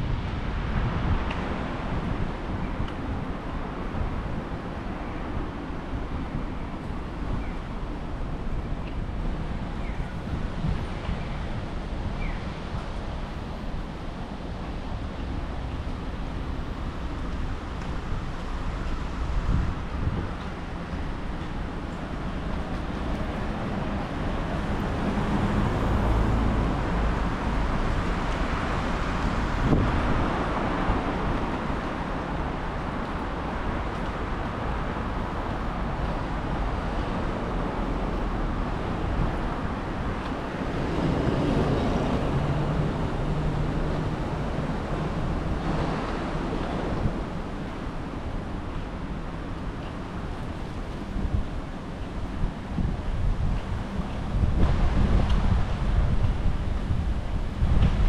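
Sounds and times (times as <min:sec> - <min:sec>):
street traffic passing: 0:00.0 - 0:58.0
wind buffeting microphone: 0:00.0 - 0:58.0.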